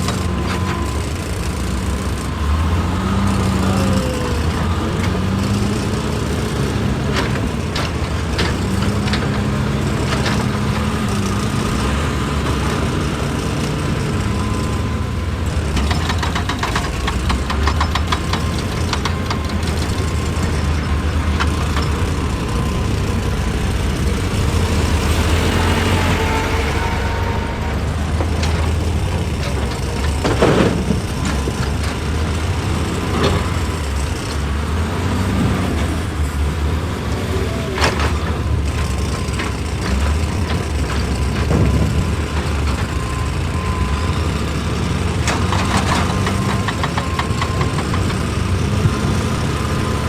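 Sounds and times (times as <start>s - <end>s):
excavator diesel engine: 0.0s - 50.0s.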